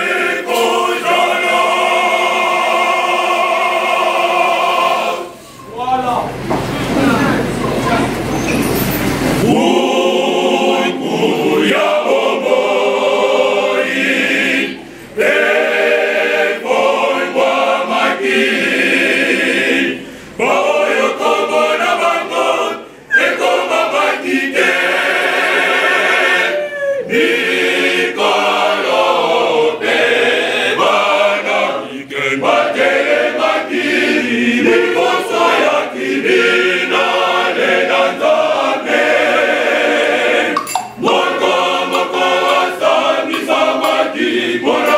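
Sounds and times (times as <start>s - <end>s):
choir singing unaccompanied: 0.0s - 8.3s, 9.1s - 44.9s.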